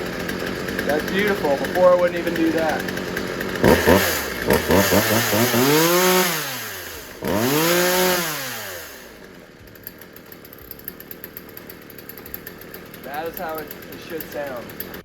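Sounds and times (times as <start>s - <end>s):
chainsaw engine revving and idling: 0.0s - 15.0s.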